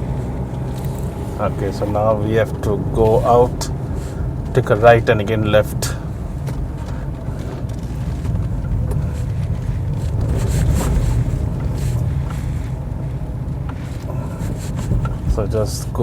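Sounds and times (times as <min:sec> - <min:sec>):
engine and tyres rumbling: 0:00.0 - 0:16.0
faint clicks and rattles: 0:00.2 - 0:16.0.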